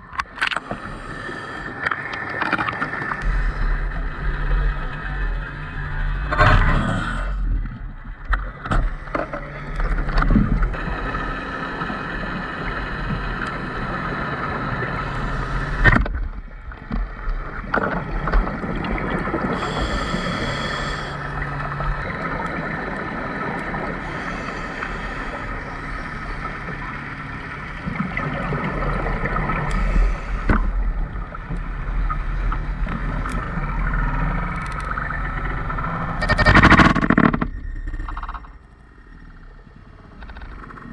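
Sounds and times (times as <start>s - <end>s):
boat engine hum underwater: 0.0s - 40.9s.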